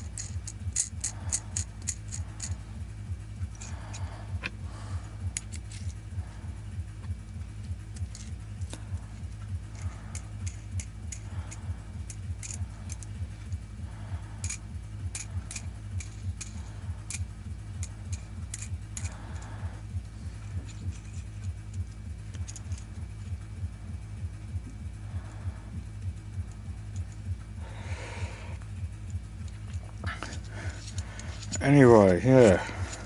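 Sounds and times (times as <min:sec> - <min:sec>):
nuts and bolts clinking: 0:00.0 - 0:27.9, 0:28.5 - 0:33.0
steady low hum: 0:00.0 - 0:33.0.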